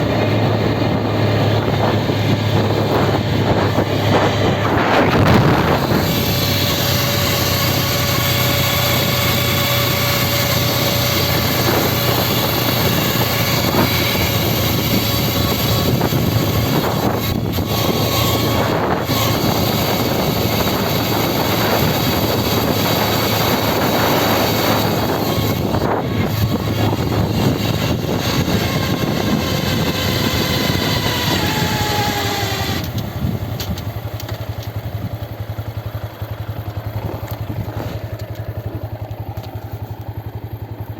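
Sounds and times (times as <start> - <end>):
wind noise: 0.0 - 39.9
motorcycle engine: 0.0 - 40.9
transmission whine: 0.0 - 40.9.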